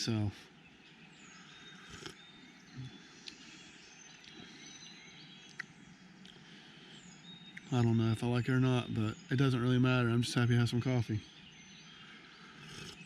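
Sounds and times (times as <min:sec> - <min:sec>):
faint bird chirps: 0:00.0 - 0:13.0
steady low hiss: 0:00.0 - 0:13.0.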